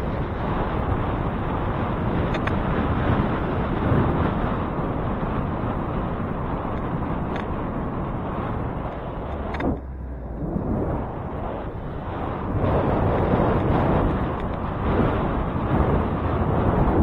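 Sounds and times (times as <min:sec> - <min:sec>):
road and wind noise on bicycle: 0:00.0 - 0:17.0
vehicles passing: 0:01.7 - 0:16.7.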